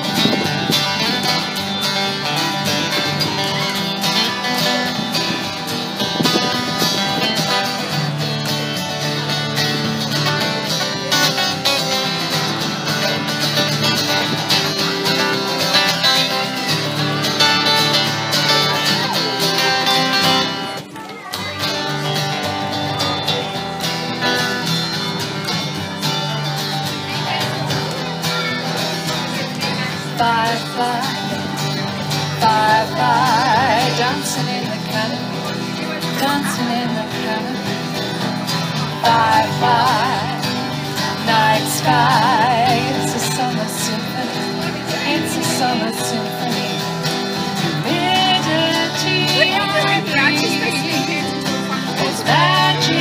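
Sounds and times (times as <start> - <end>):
acoustic guitars strumming: 0.0 - 53.0.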